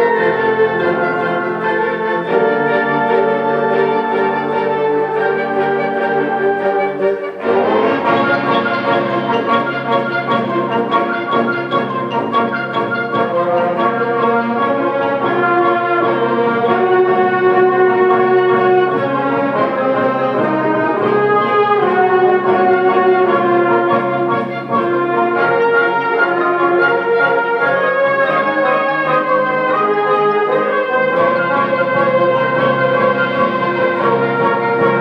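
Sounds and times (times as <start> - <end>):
brass sustained chords: 0.0 - 35.0
symphonic band playing: 0.0 - 35.0.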